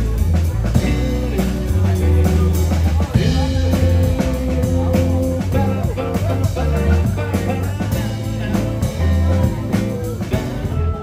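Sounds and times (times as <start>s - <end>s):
bass line: 0.0s - 11.0s
drum hits: 0.0s - 11.0s
live rock band playing: 0.0s - 11.0s.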